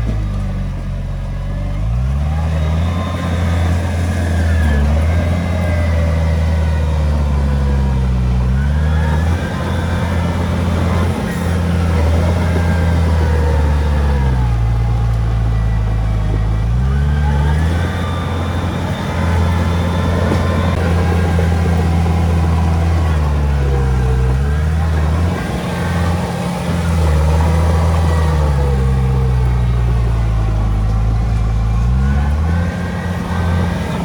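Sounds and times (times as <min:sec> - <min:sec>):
bulldozer diesel engine straining: 0:00.0 - 0:34.0.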